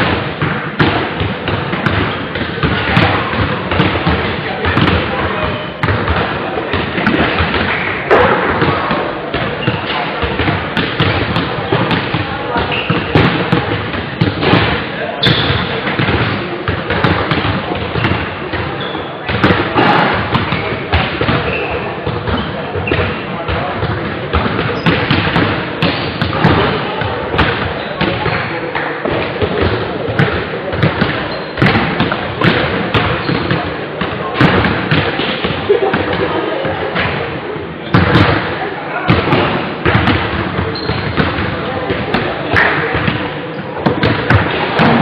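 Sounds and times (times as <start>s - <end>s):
basketball bouncing on hall floor: 0.0s - 45.0s.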